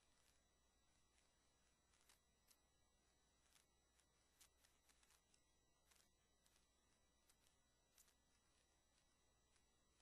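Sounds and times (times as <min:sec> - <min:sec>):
faint hiss: 0:00.0 - 0:10.0.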